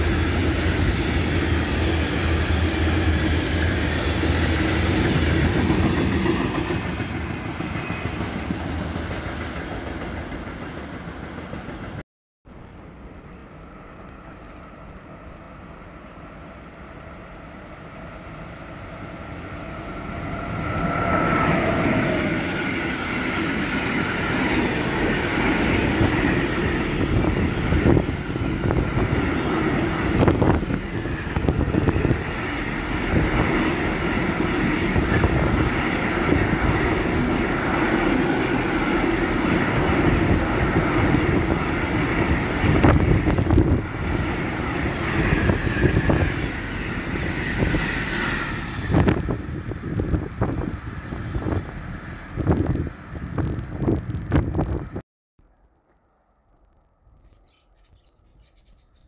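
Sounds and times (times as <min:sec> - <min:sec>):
freight train rumbling past: 0:00.0 - 0:12.0, 0:12.8 - 0:55.0.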